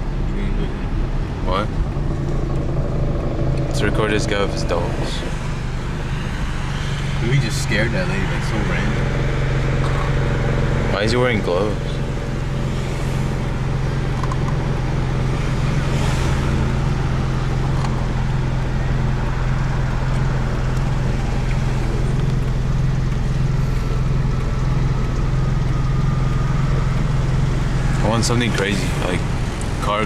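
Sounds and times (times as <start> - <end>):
car engine hum: 0.0 - 30.0
road and traffic noise: 0.0 - 30.0.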